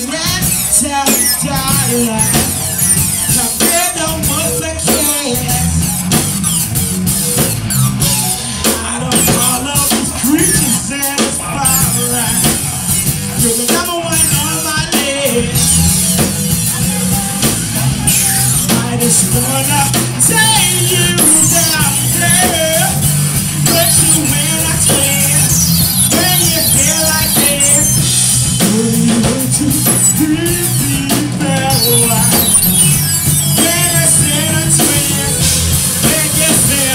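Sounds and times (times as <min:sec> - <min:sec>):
drum kit: 0:00.0 - 0:36.9
electric guitar: 0:00.0 - 0:36.9.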